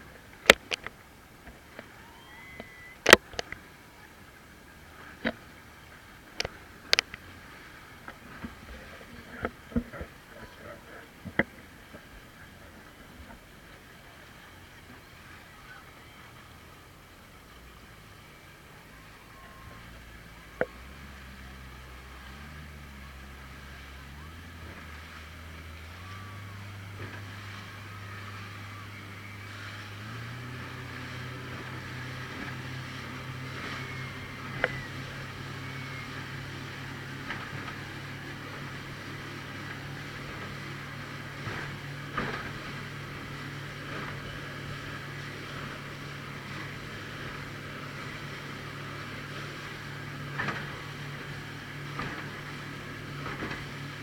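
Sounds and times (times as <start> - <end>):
speedboat engine running: 0.0 - 54.0.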